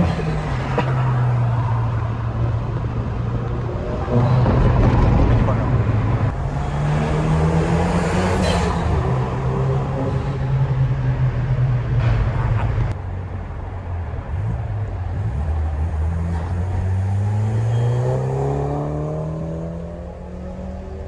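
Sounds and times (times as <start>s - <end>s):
turbocharged car engine revving: 0.0s - 13.0s, 14.0s - 21.0s.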